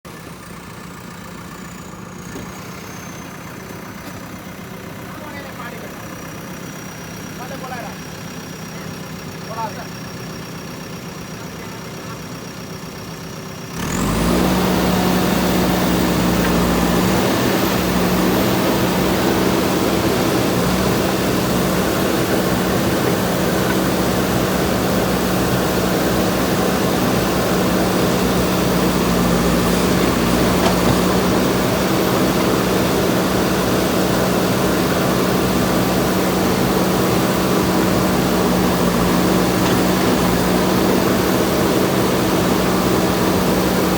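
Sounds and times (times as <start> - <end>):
diesel engine running: 0.1 - 43.9.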